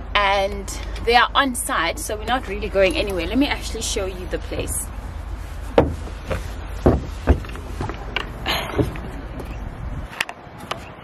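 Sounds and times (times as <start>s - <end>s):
wind buffeting microphone: 2.2s - 11.0s.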